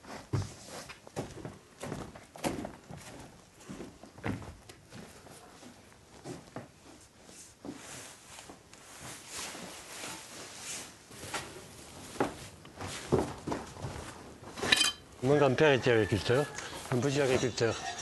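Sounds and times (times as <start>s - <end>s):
footsteps on barn floor: 0.0s - 17.9s.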